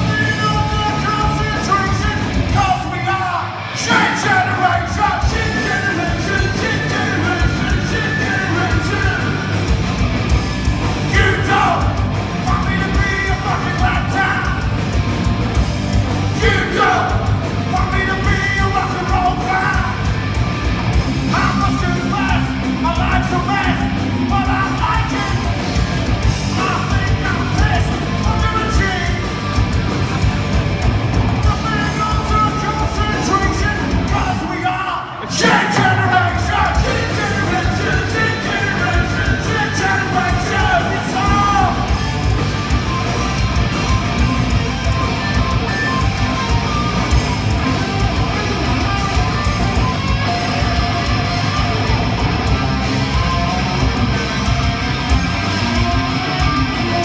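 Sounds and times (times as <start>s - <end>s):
bass guitar: 0.0s - 57.0s
drums: 0.0s - 57.0s
electric guitars: 0.0s - 57.0s.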